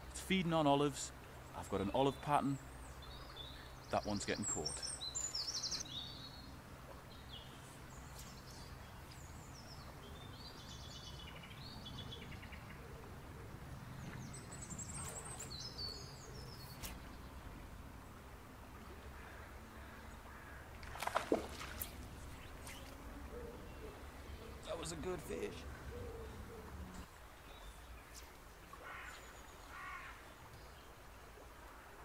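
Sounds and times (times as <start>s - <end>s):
small songbirds twittering: 0.0s - 17.7s, 18.8s - 31.5s
low background noise: 0.0s - 32.0s.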